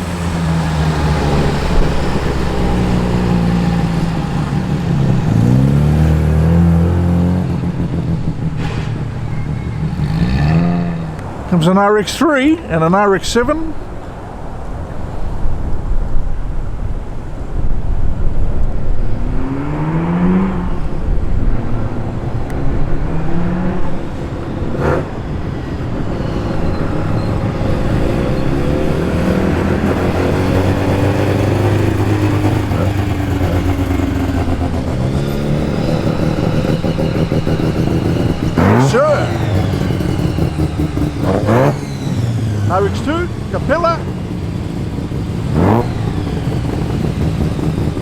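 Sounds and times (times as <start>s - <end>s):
rotary car engines: 0.0s - 48.0s.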